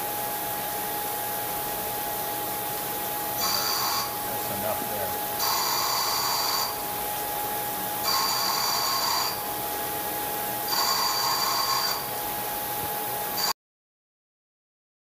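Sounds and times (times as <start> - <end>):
high-pitched cutting whine: 0.0 - 13.6
steady machine tone: 0.0 - 13.6.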